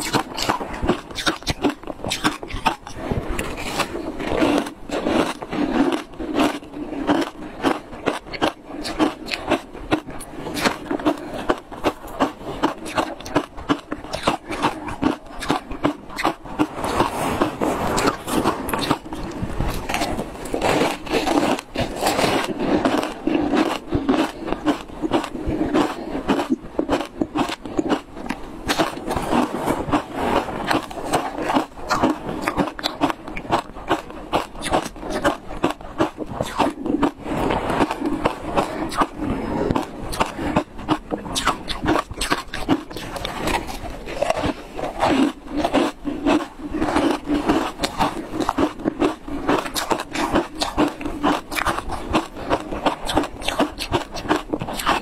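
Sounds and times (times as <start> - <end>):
ice being chewed and crunched: 0.0 - 55.0.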